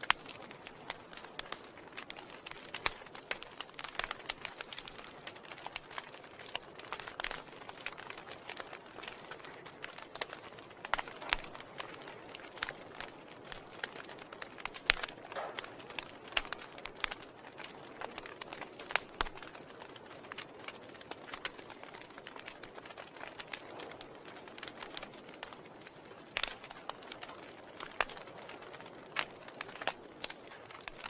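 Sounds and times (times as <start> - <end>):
soft fire hiss: 0.0 - 31.0
wood fire crackling: 0.0 - 31.0.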